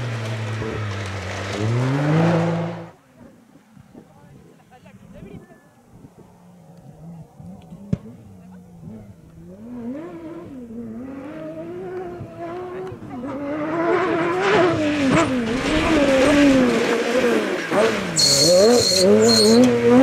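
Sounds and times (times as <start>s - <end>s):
rally car engine revving: 0.0s - 3.0s, 6.4s - 20.0s.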